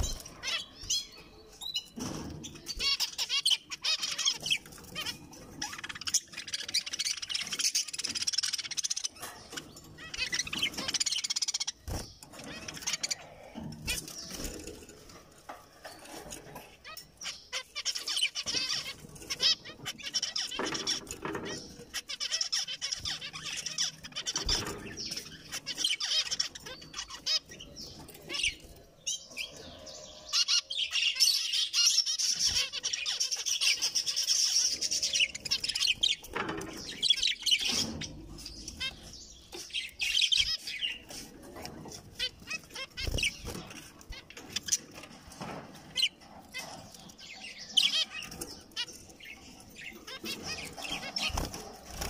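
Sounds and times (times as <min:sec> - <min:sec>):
birds hopping clicks: 0:00.0 - 0:31.4, 0:32.0 - 0:52.0
finches chattering: 0:00.0 - 0:52.0.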